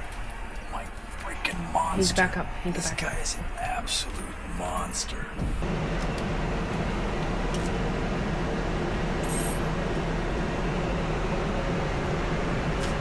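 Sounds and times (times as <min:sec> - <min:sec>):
machine running with low hum: 0:00.0 - 0:13.0.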